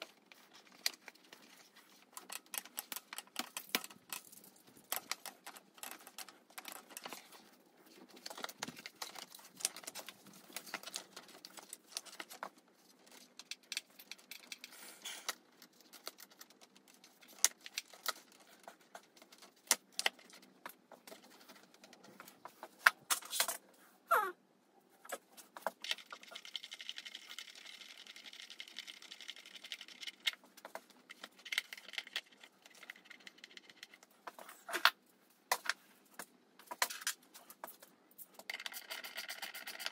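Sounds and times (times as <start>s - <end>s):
plastic parts clicking and rattling: 0.0s - 23.7s, 25.0s - 39.9s.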